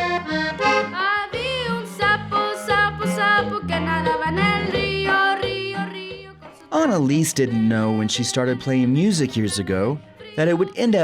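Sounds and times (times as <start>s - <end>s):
accordion melody: 0.0s - 10.7s.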